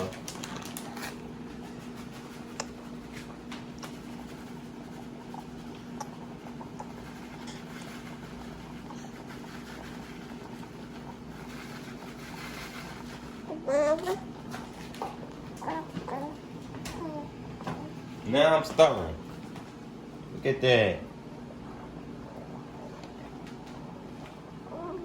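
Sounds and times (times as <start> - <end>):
low kitchen hum: 0.0 - 25.0.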